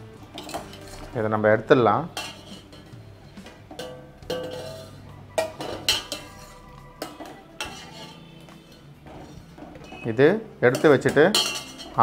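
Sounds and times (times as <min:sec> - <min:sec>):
metal ladle clinking against pot: 0:00.2 - 0:12.0.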